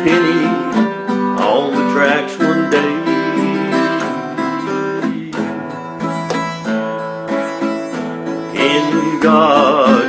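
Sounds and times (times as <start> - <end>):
person singing country song: 0.0 - 7.3, 8.0 - 10.0
fingerstyle acoustic guitar: 0.0 - 10.0.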